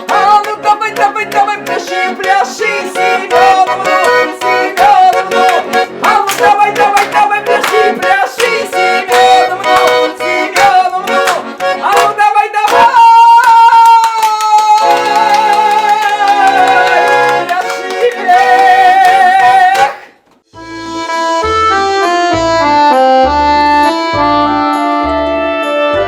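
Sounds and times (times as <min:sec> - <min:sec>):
accordion playing folk dance tune: 0:00.0 - 0:13.2, 0:14.8 - 0:26.0.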